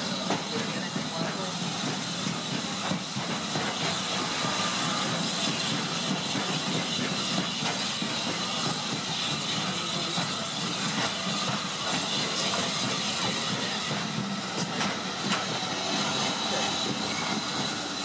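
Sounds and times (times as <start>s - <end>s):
train rumbling and hissing: 0.0s - 18.0s.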